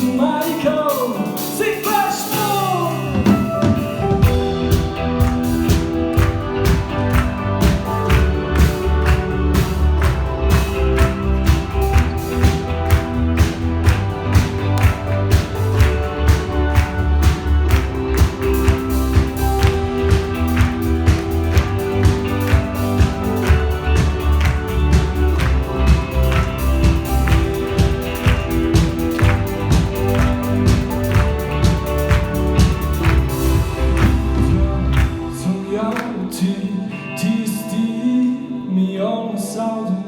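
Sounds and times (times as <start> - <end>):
live band instrumental music: 0.0 - 38.5.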